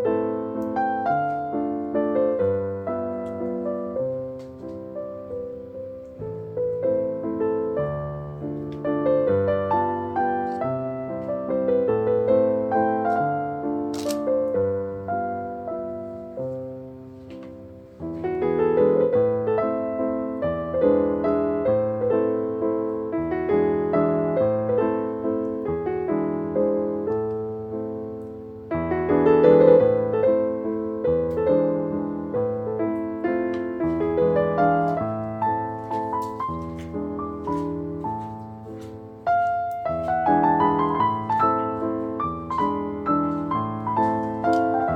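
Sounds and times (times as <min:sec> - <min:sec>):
gentle piano music: 0:00.0 - 0:44.9.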